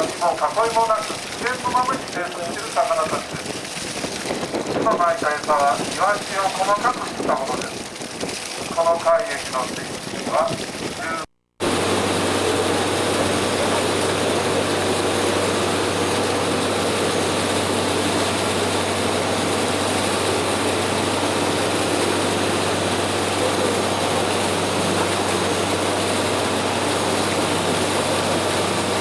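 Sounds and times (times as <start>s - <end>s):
boat engine drone: 0.0s - 29.0s.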